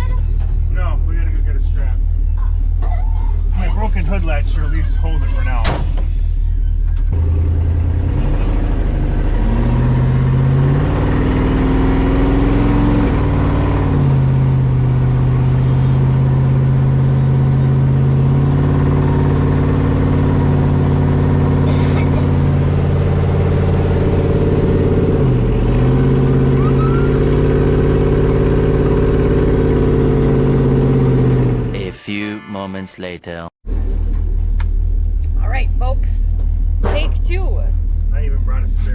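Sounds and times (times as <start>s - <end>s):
car engine running: 0.4s - 31.9s.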